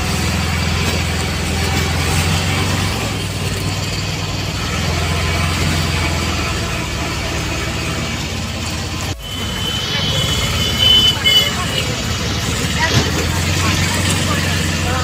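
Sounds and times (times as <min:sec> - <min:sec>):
road and wind noise: 0:00.0 - 0:15.0
vehicle engine humming: 0:00.0 - 0:15.0.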